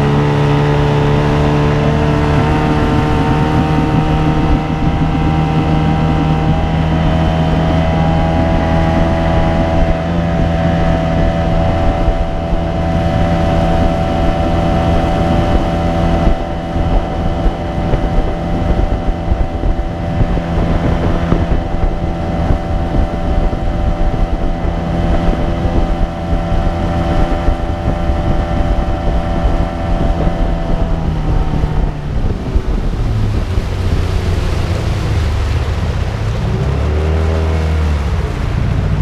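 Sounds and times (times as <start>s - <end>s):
outboard motor running: 0.0s - 39.0s
wind buffeting microphone: 0.0s - 39.0s.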